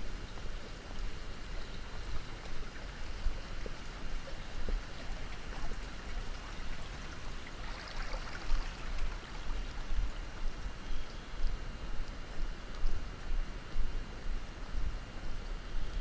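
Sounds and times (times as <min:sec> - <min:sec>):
running water rushing: 0:00.0 - 0:13.9.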